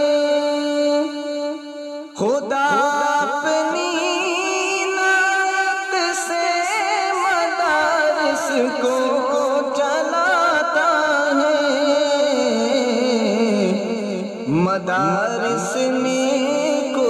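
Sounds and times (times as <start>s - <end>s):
person singing wordless melody: 0.0s - 17.0s.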